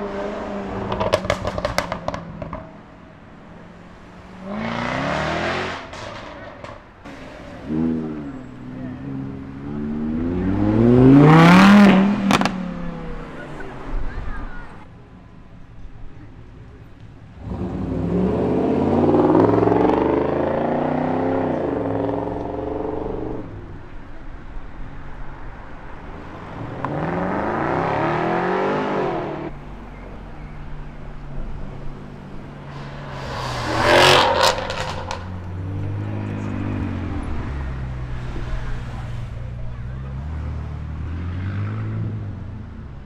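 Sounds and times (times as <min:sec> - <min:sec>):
car engines accelerating hard: 0:00.0 - 0:14.9, 0:16.8 - 0:43.0.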